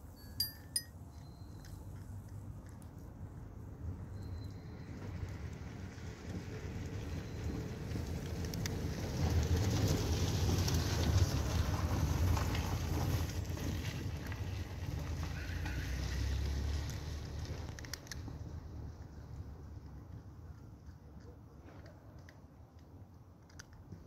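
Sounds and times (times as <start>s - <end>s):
car engine and tyre noise: 1.7s - 24.0s.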